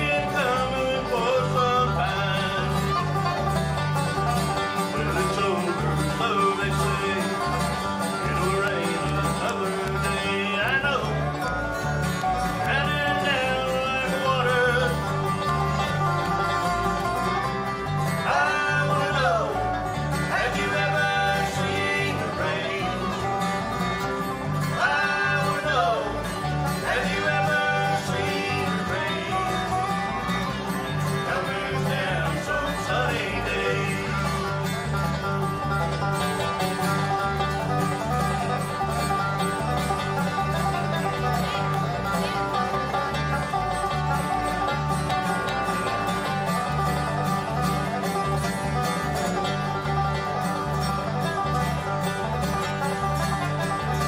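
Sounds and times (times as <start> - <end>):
banjo picking: 0.0 - 54.0
electric bass: 0.0 - 54.0
strummed acoustic guitars: 0.0 - 54.0.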